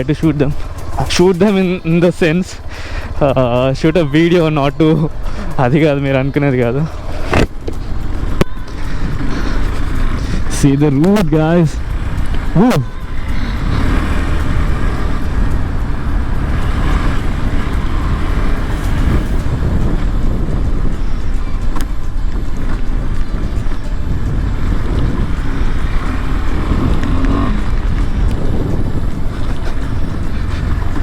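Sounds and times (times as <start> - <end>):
motorcycle engine running: 0.0 - 31.0
wind rumble on microphone: 5.0 - 31.0.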